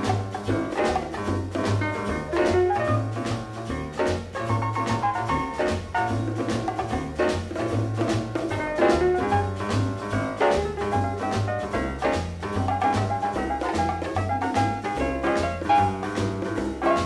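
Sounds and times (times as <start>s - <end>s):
drums: 0.0s - 17.0s
swing jazz music: 0.0s - 17.0s
walking bass line: 0.0s - 17.0s.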